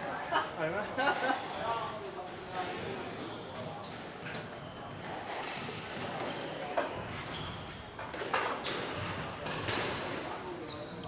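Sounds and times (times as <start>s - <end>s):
squash hall background noise: 0.0s - 11.0s.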